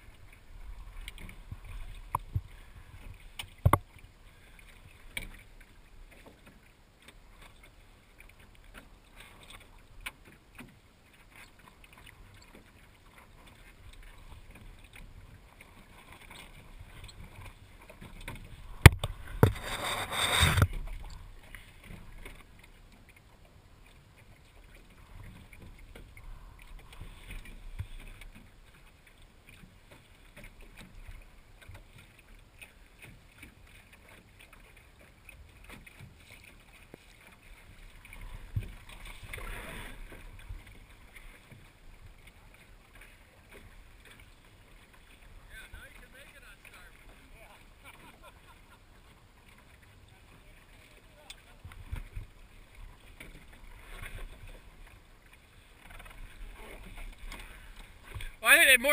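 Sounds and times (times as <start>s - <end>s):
water and wind around hull: 0.0s - 58.9s.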